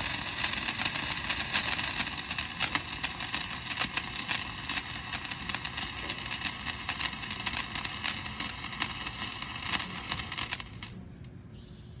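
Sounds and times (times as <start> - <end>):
hiss of spraying sparks: 0.0 - 10.9
firework crackling: 0.0 - 11.0.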